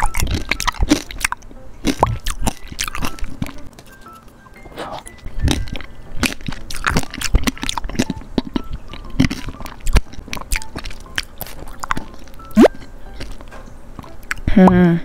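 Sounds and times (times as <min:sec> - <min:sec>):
candy shell crunching in mouth: 0:00.0 - 0:03.7, 0:04.9 - 0:13.4.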